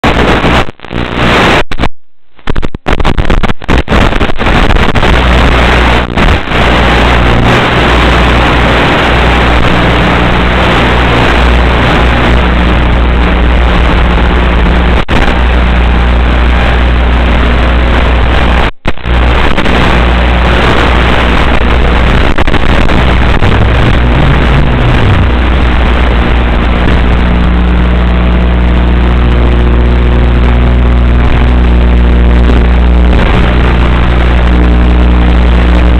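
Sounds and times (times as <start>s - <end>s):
low hum: 0.0s - 35.9s
loud steady hiss: 2.6s - 35.9s.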